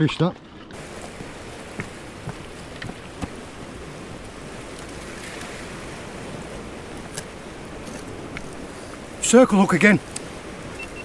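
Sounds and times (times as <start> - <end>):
wind: 0.0 - 11.0
sea waves washing: 0.7 - 11.0.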